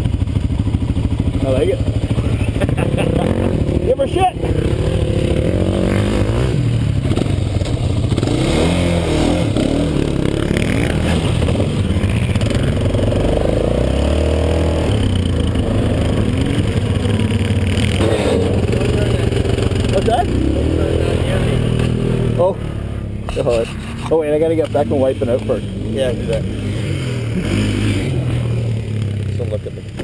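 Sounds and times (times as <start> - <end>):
engine idling: 0.0 - 8.4, 9.5 - 30.0
atvs revving: 0.0 - 30.0.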